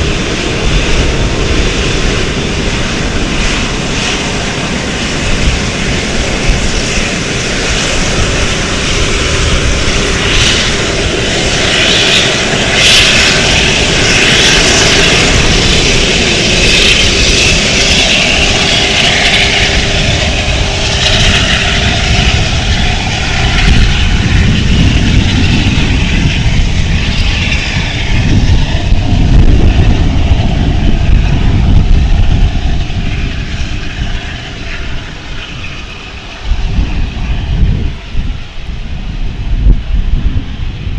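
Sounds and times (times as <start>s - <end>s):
airplane engines running: 0.0s - 40.9s.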